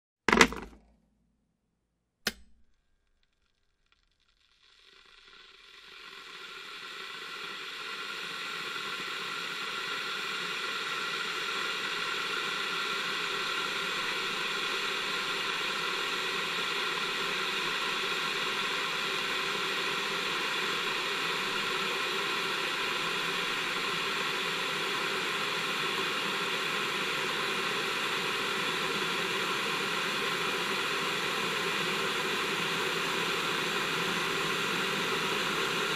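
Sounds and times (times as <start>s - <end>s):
electric kettle hissing: 4.6s - 35.9s.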